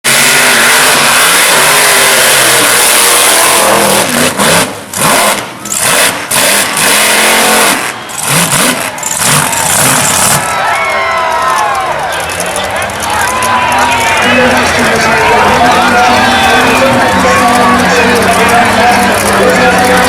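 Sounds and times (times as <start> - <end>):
truck engine revving: 0.0 - 10.7, 12.1 - 20.0.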